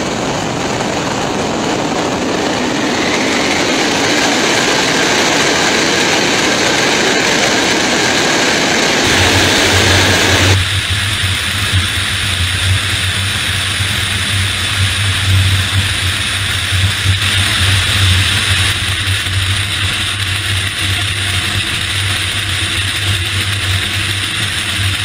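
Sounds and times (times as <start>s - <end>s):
airflow rushing: 0.0s - 25.0s
jet engine noise: 0.0s - 25.0s
strong low hum: 0.0s - 25.0s.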